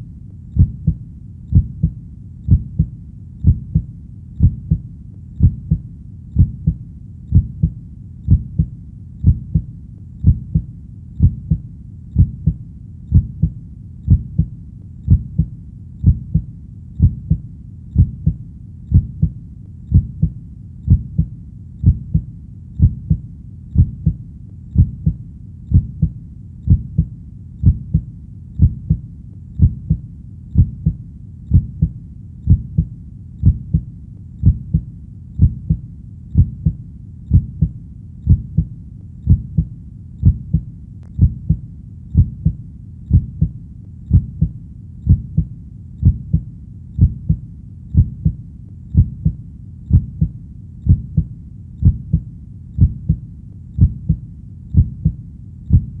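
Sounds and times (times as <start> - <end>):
heartbeat thumps: 0.6 - 56.0.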